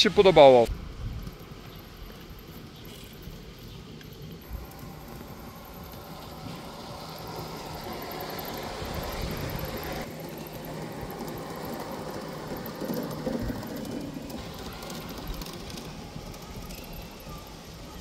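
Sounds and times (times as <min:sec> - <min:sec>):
wheels rolling on rails: 0:00.0 - 0:18.0
model train motor hum: 0:00.8 - 0:18.0.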